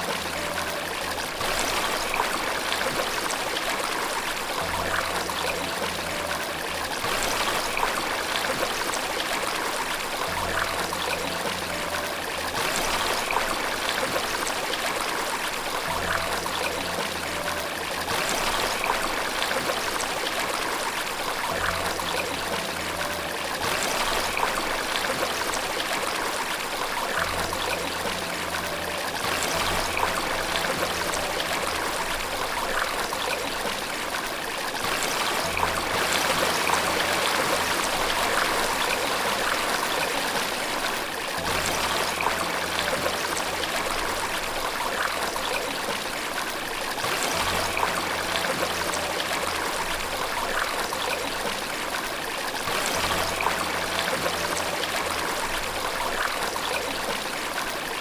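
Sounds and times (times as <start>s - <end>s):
faint low sustained notes: 0.0s - 57.9s
running water rushing: 0.0s - 58.0s.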